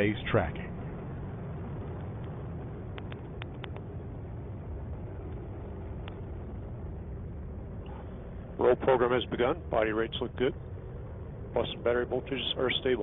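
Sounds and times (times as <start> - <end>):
rocket engine rumbling: 0.0 - 13.0.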